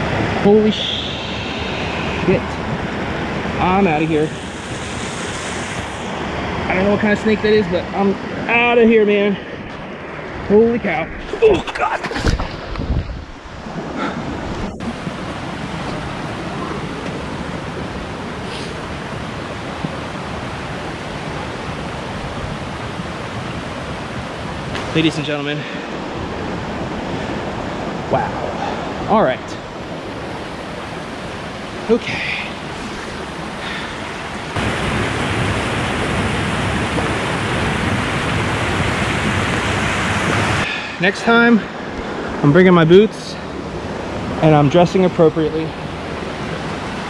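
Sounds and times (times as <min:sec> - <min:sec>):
water rushing over rocks: 0:00.0 - 0:42.6.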